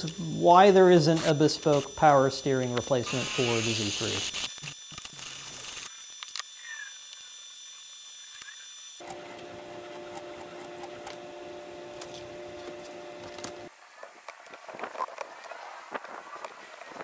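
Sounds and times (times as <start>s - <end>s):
steady hum with held tones: 0.0s - 13.7s.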